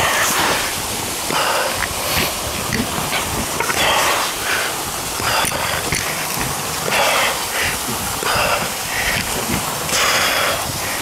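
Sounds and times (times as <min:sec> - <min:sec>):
person breathing hard: 0:00.0 - 0:11.0
rushing water: 0:00.0 - 0:11.0.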